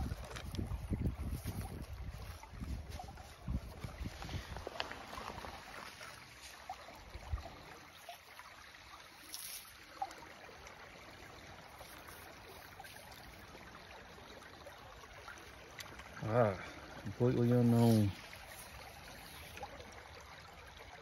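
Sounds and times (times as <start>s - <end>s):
creek water trickling: 0.0s - 21.0s.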